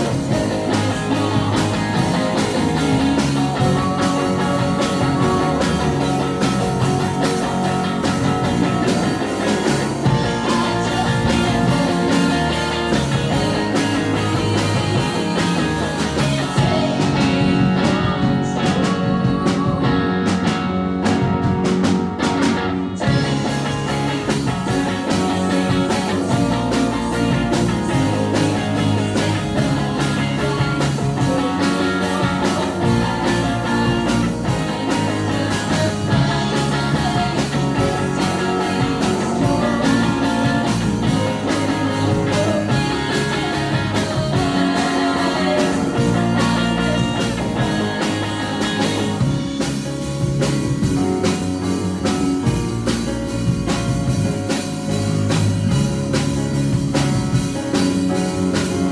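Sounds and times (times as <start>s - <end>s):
live rock band playing: 0.0s - 58.9s.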